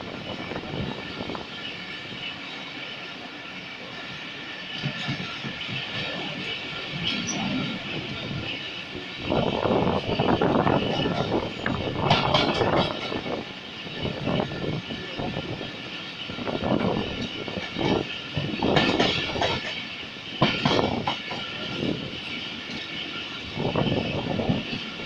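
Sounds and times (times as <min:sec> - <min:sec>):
train wheels on rails: 0:00.0 - 0:25.0.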